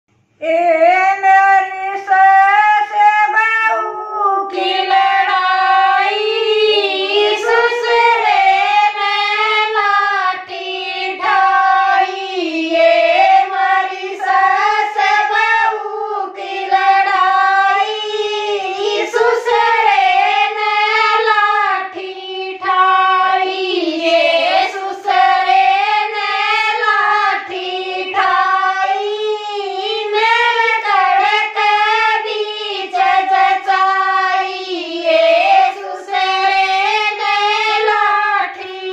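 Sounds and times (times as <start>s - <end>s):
women singing unaccompanied: 0.4s - 38.9s.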